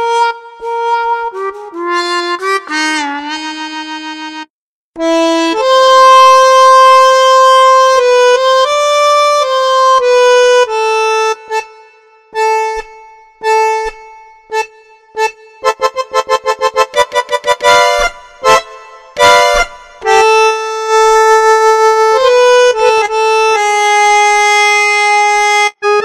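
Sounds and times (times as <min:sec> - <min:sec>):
keyboard lead melody: 0:00.0 - 0:26.0
keyboard long held notes: 0:00.0 - 0:26.0
short repeated keyboard notes: 0:00.0 - 0:26.0.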